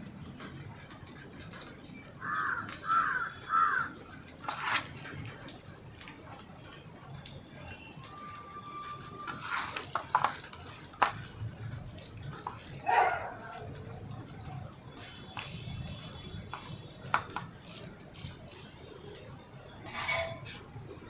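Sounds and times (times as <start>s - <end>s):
water splashing and trickling: 0.0s - 20.5s.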